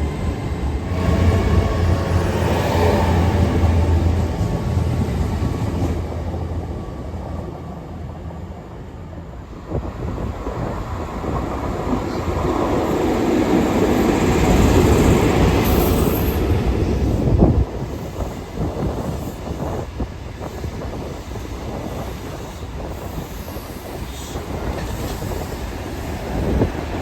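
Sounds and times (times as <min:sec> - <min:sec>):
train running noise: 0:00.0 - 0:27.0.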